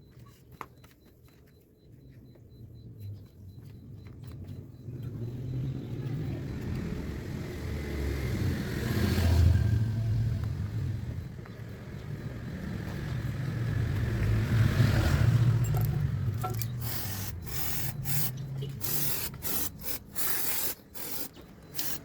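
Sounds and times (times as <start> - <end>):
vehicle engine rumbling: 3.8 - 22.0.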